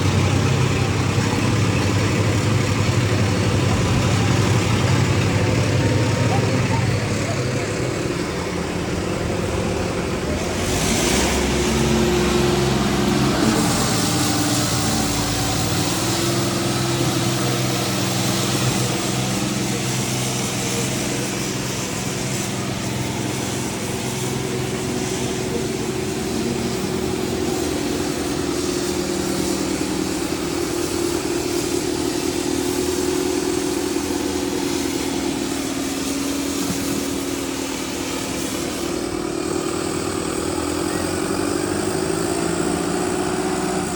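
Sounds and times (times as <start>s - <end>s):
diesel tractor engines under load: 0.0s - 43.9s.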